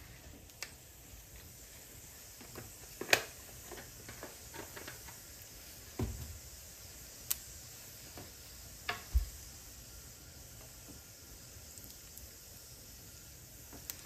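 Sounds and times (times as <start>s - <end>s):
faint sizzle: 0.0s - 14.0s
seeds popping in hot oil: 0.0s - 14.0s.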